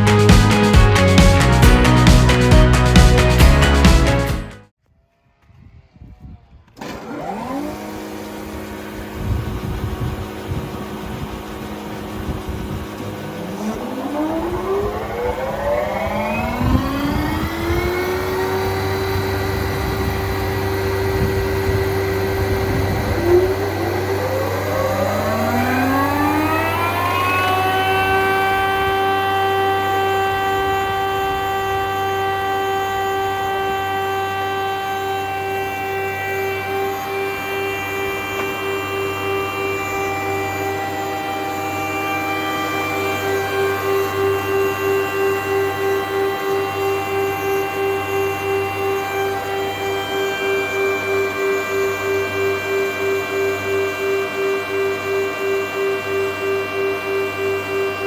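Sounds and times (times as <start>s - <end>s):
planer motors whining: 5.0s - 58.0s.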